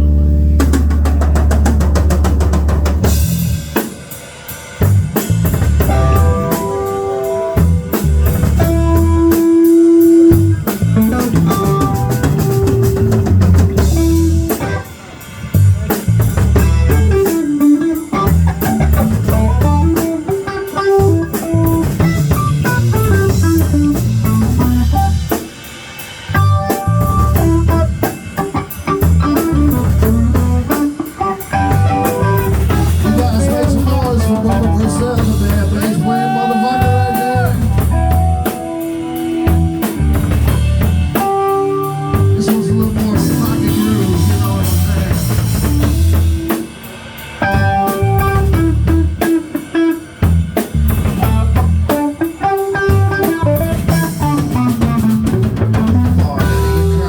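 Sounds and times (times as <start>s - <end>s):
electric guitar: 0.0s - 4.2s, 4.8s - 57.0s
bass guitar: 0.0s - 57.0s
drum kit: 0.0s - 57.0s.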